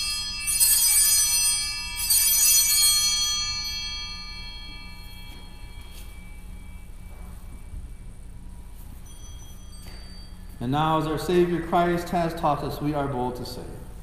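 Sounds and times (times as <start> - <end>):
altar bells ringing: 0.0 - 13.8.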